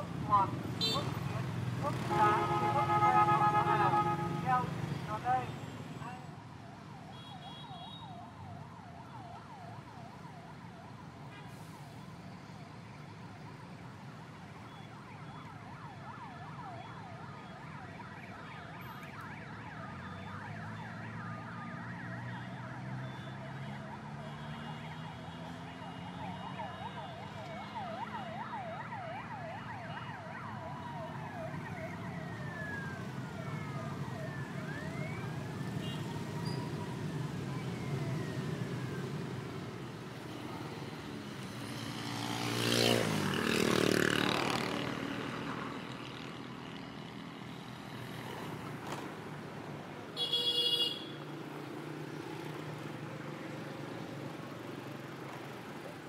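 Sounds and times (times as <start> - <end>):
road traffic engines: 0.0 - 56.0.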